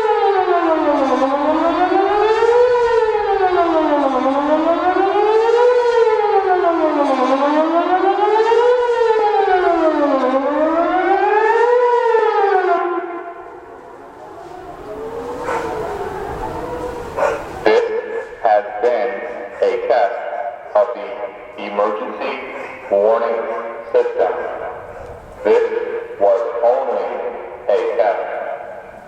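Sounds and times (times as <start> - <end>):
wailing warning siren: 0.0 - 29.0.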